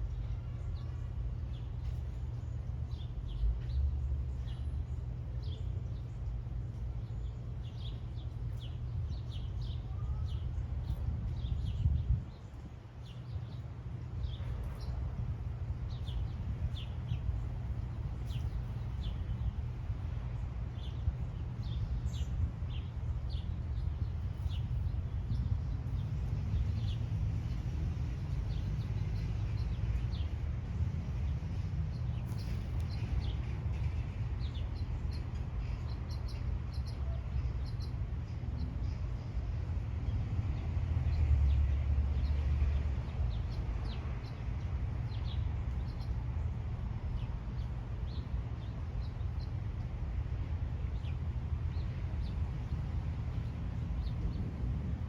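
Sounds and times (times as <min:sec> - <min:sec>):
small birds chirping: 0:00.0 - 0:55.0
steady low rumble: 0:00.0 - 0:55.0.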